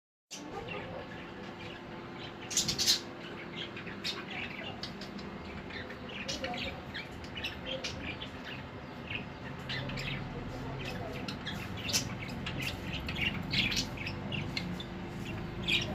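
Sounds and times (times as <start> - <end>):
budgies chirping and chattering: 0.3 - 15.9.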